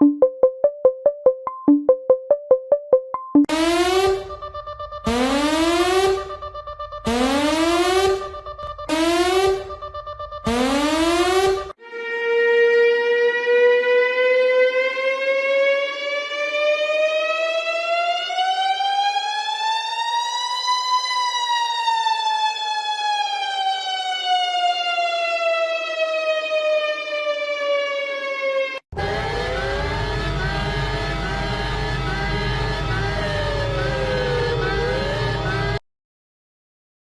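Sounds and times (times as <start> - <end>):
siren wailing: 3.5 - 35.8.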